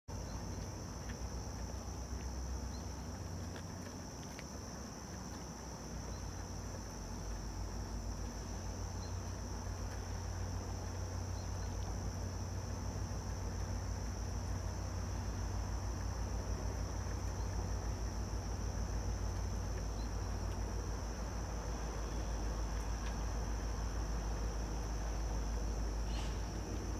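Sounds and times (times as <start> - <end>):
insects trilling: 0.1 - 26.9.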